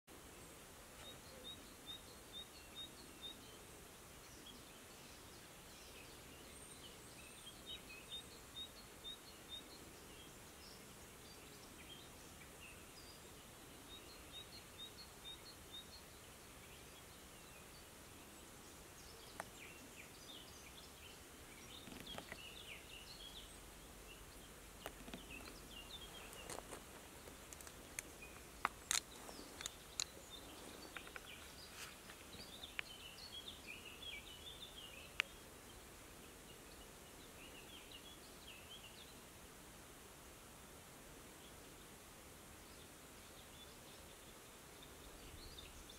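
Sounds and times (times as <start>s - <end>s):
birds chirping: 0.4s - 39.2s.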